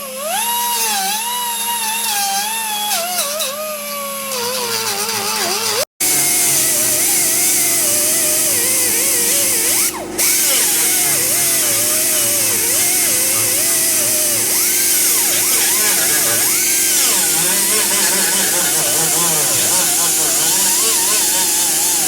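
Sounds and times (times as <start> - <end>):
power tool whining on metal: 0.0 - 22.0.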